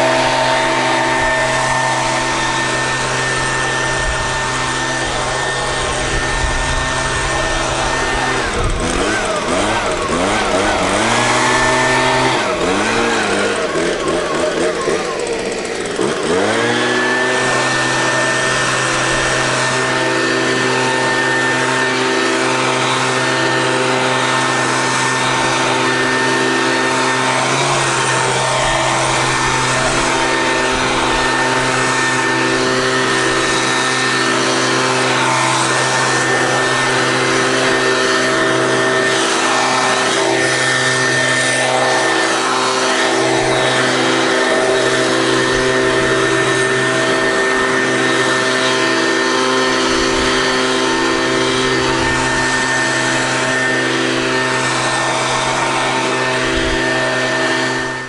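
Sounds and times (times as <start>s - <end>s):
leaf blower running: 0.0s - 58.0s.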